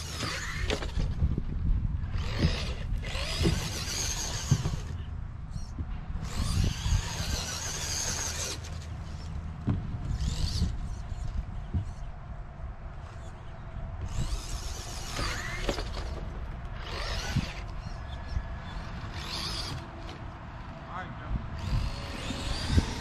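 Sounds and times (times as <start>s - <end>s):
electric rc car motor whining: 0.0s - 1.4s, 2.0s - 9.4s, 10.0s - 12.0s, 13.1s - 20.2s, 21.5s - 23.0s.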